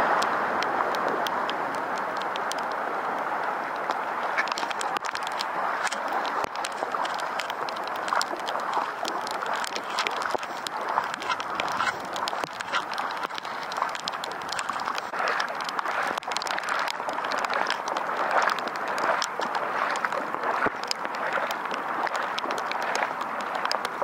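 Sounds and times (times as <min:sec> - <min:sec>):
floodwater splashing: 0:00.0 - 0:24.0
rain falling on water: 0:00.0 - 0:24.0.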